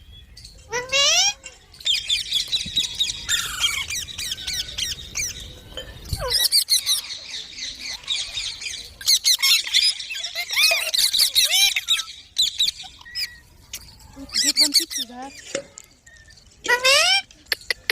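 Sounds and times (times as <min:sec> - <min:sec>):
parakeets chirping and squawking: 0:00.6 - 0:15.6, 0:16.3 - 0:17.9.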